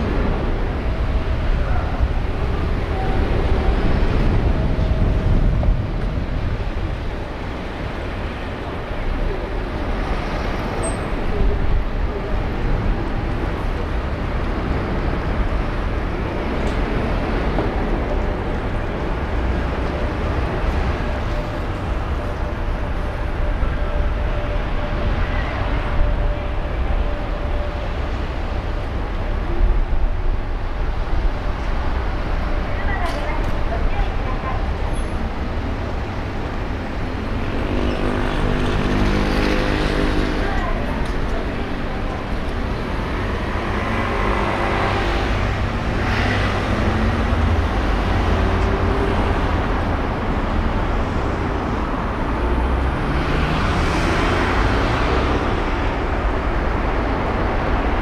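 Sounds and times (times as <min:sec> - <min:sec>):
low city street rumble: 0:00.0 - 0:58.0.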